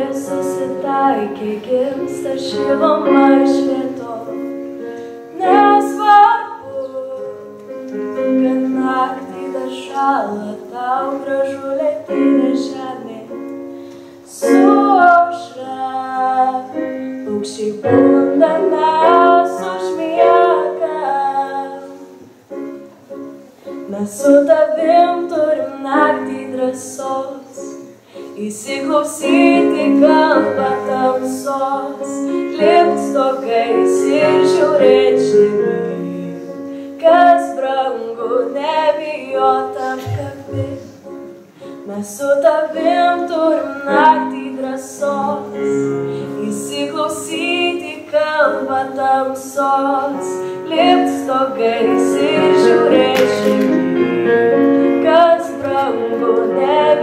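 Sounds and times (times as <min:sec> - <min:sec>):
woman singing into microphone: 0:00.0 - 0:13.6, 0:14.3 - 0:22.2, 0:23.8 - 0:41.0, 0:41.7 - 0:57.0
instrumental accompaniment: 0:00.0 - 0:57.0.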